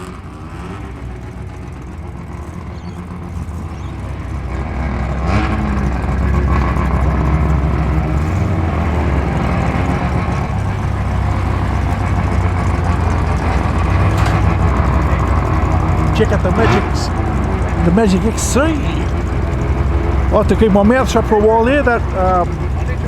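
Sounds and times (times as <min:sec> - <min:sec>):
rotary car engine rumbling: 0:00.0 - 0:23.0.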